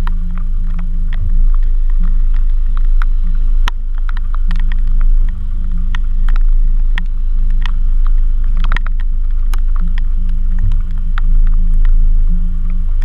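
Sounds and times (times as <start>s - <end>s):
raindrops ticking on camera housing: 0.0s - 13.0s
steady low rumble: 0.0s - 13.0s.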